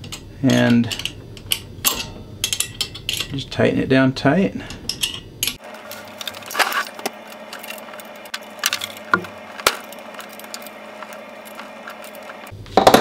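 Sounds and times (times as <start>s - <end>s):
metal clinks and knocks: 0.0s - 3.4s, 4.8s - 12.5s.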